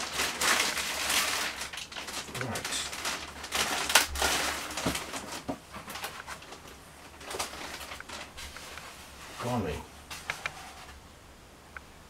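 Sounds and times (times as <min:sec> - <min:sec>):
plastic bag rustling and crinkling: 0:00.0 - 0:11.0.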